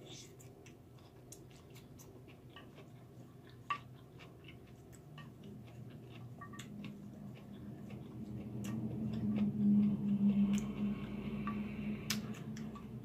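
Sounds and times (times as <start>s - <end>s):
chewing with mouth clicks: 0.1s - 13.0s.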